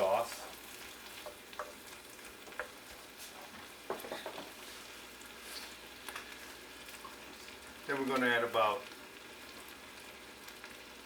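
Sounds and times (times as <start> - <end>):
sauce simmering and sizzling: 0.0 - 11.0
utensil stirring in a pan: 0.0 - 11.0.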